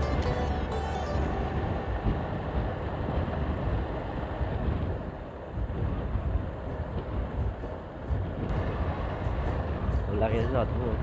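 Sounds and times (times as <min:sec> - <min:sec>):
road noise: 0:00.0 - 0:11.0
wind buffeting microphone: 0:01.9 - 0:11.0.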